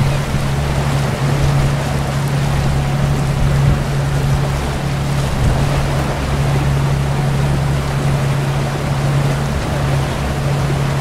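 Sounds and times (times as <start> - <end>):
boat engine droning: 0.0 - 11.0
water rushing: 0.0 - 11.0
wind buffeting microphone: 0.0 - 11.0.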